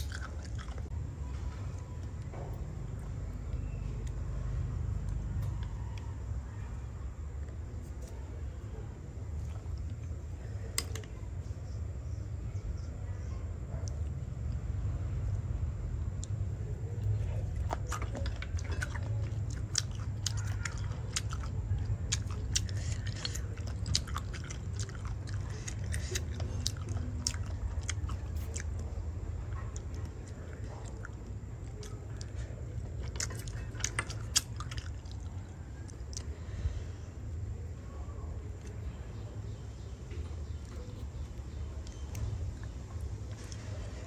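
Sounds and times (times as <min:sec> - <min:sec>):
person chewing snails: 0:00.0 - 0:06.5, 0:13.8 - 0:44.0
steady low rumble: 0:00.0 - 0:44.0.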